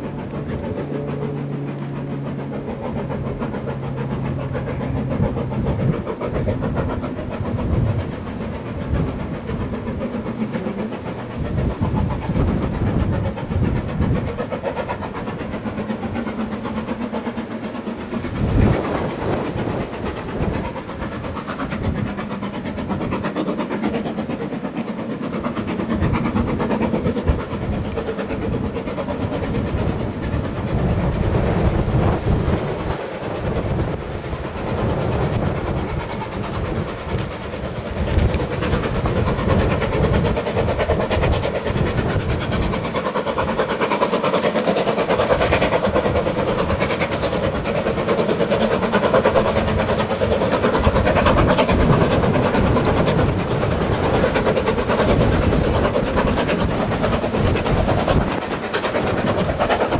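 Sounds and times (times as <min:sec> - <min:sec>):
steam hissing: 0:00.0 - 0:59.9
steam locomotive chuffing: 0:00.0 - 0:59.9.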